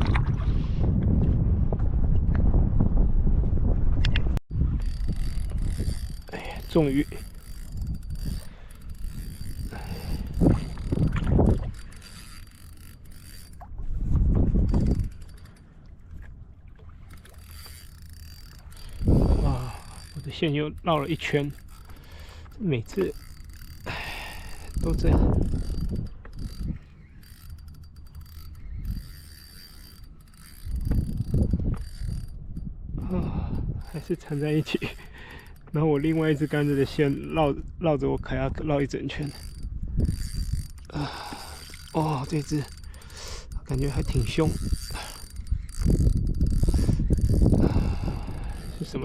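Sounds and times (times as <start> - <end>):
fishing reel ratcheting: 4.6 - 13.8, 14.5 - 15.8, 17.0 - 49.0.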